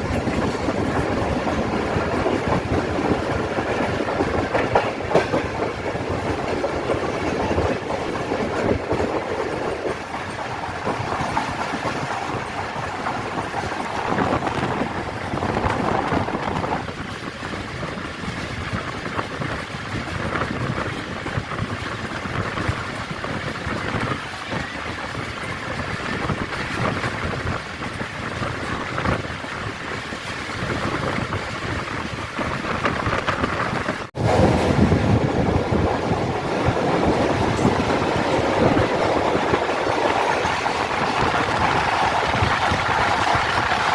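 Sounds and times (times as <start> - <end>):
train rumbling and rattling: 0.0 - 43.9.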